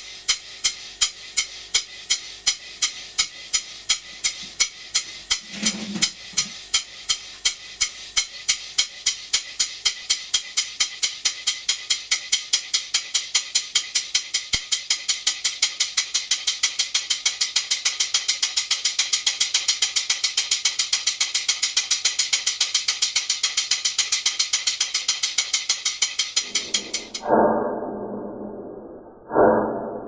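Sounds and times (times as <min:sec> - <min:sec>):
model steam engine beating: 0:00.0 - 0:27.2.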